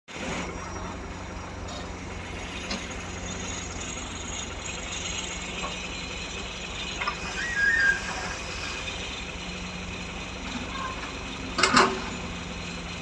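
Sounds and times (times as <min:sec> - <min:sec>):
excavator diesel engine running: 0:00.1 - 0:13.0.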